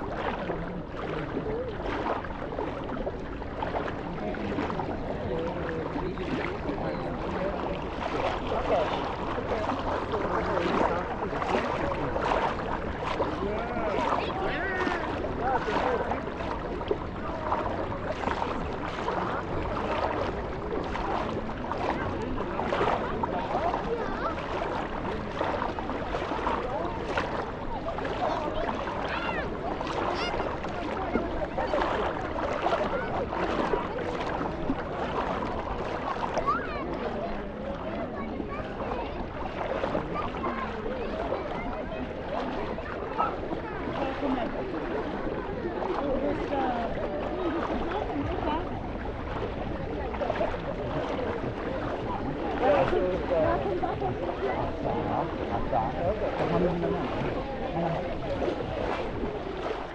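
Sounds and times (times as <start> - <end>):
crowd chatter: 0.0 - 59.9.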